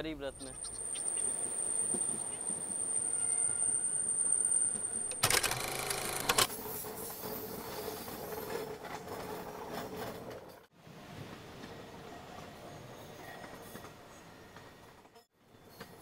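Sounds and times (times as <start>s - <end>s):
train wheels on rails: 1.3s - 16.0s.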